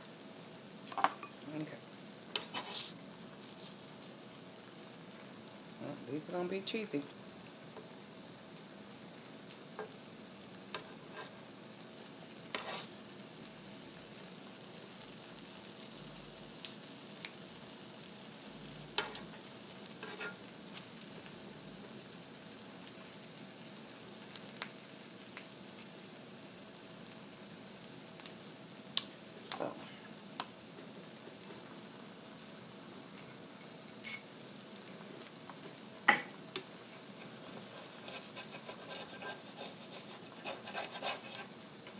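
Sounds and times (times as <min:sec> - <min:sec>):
food sizzling on a griddle: 0:00.0 - 0:41.9.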